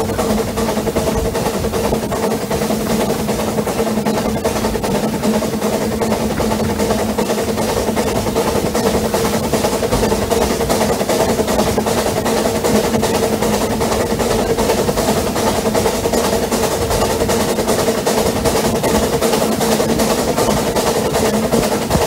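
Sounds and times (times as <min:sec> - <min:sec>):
railway carriage wheels clattering: 0:00.0 - 0:22.0
steady hum: 0:00.0 - 0:22.0.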